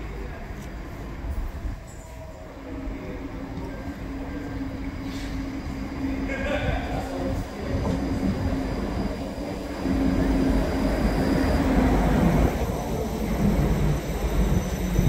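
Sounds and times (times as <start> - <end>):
passenger train wheels rumbling: 0.0 - 15.0.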